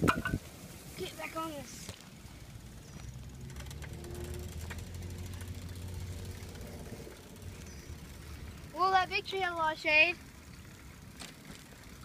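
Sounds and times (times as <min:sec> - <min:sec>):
vehicle engine running: 0:01.2 - 0:12.0.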